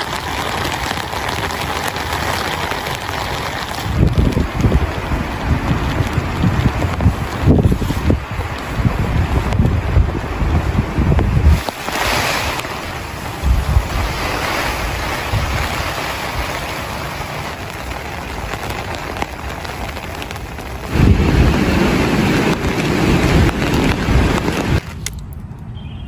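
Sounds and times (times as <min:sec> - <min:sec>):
heavy rain falling: 0:00.0 - 0:25.2
wind buffeting microphone: 0:00.0 - 0:26.0.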